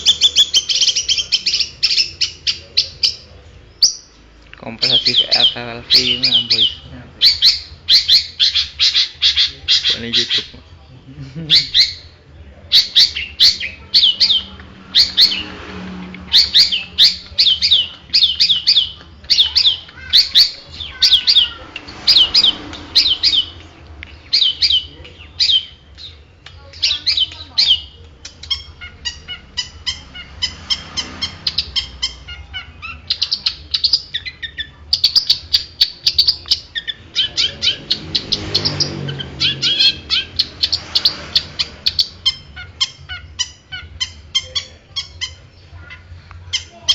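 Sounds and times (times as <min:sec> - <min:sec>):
bird chattering song: 0:00.0 - 0:10.7, 0:11.3 - 0:46.9.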